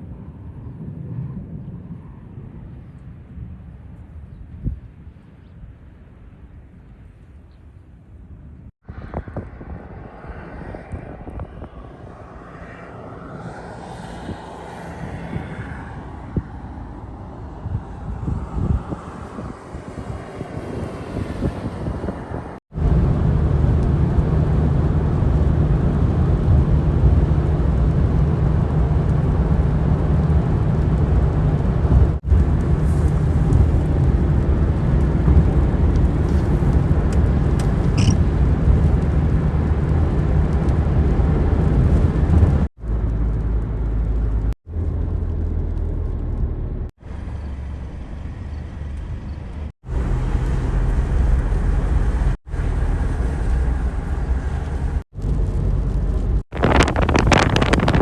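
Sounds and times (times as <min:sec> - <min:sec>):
vehicle driving rumble: 0:08.9 - 0:58.0.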